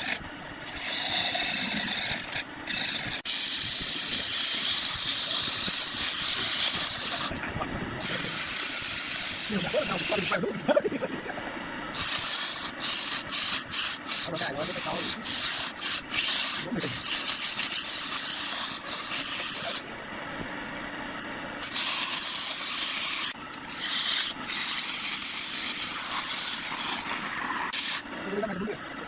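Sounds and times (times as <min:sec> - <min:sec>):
wood rasping on a lathe: 0:00.0 - 0:19.9, 0:21.6 - 0:29.0.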